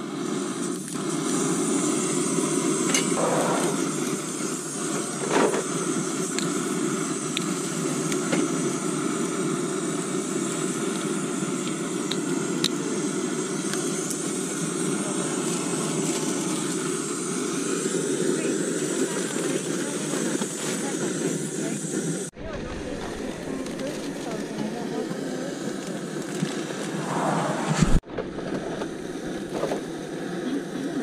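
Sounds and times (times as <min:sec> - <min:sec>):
gas stove burner hissing: 0:00.0 - 0:31.0
lighter igniting stove: 0:00.0 - 0:31.0.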